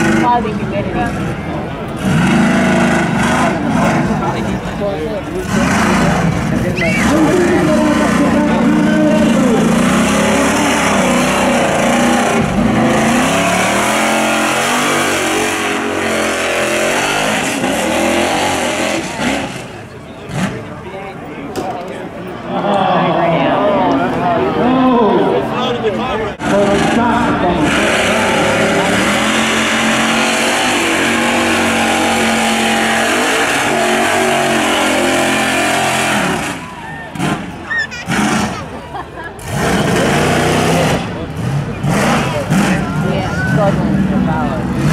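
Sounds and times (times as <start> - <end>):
truck engine revving: 0.0 - 21.3, 25.3 - 44.9.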